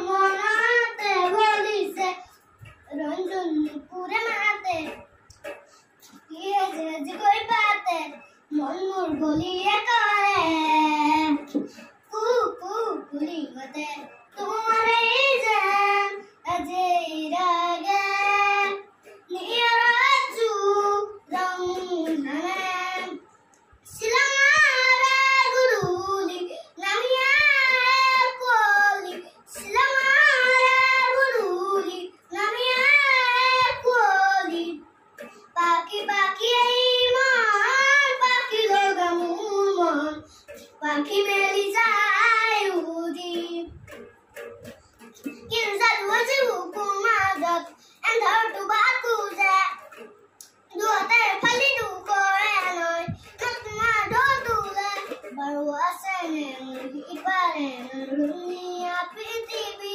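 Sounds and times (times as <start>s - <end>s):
boy singing: 0.0s - 59.9s
faint clicks and knocks: 0.0s - 59.9s.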